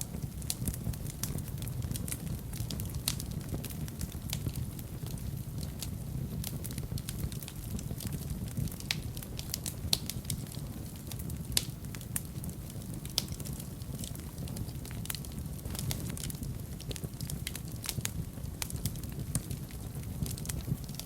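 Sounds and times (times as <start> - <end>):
fire crackling and popping: 0.0 - 21.0
fire rumbling in fireplace: 0.0 - 21.0.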